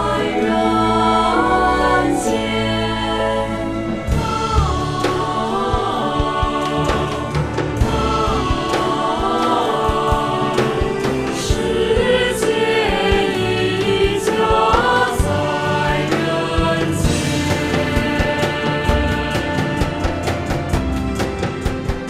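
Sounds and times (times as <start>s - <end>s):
choir singing: 0.0s - 22.0s
music with steady drum beat: 4.0s - 22.0s.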